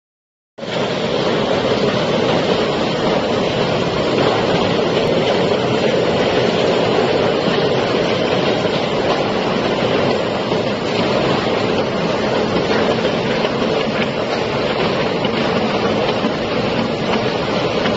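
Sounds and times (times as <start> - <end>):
bottle unscrambler machine running: 0.6 - 17.9.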